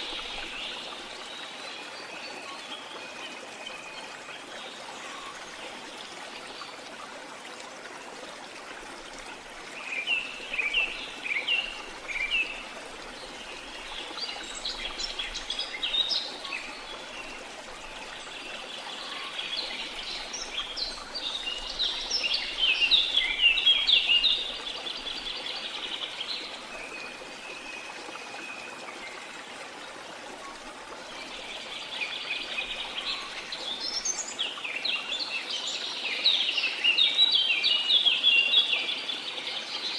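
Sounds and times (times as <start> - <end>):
flowing water rush: 0.0 - 39.9.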